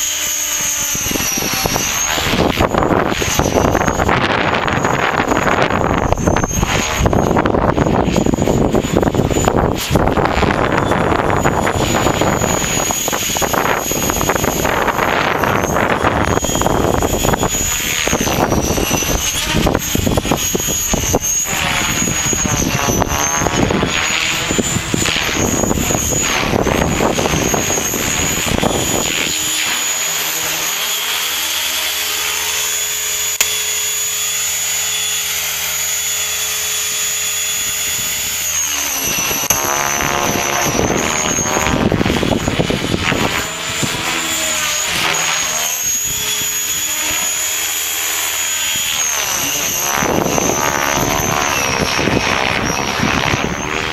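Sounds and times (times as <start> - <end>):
rc helicopter motor whine: 0.0 - 53.9
rotor blades humming: 0.0 - 53.9
wind buffeting microphone: 0.8 - 30.6, 36.9 - 53.9.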